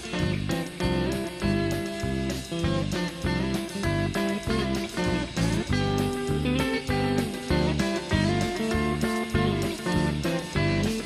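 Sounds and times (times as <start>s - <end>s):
country rock guitar playing: 0.0s - 11.0s.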